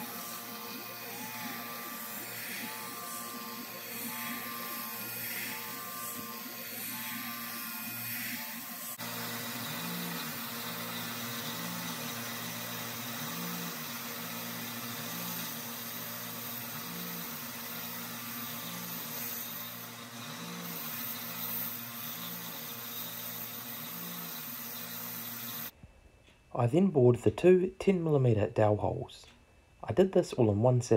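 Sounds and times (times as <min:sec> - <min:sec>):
milling machine whirring: 0:00.0 - 0:25.7.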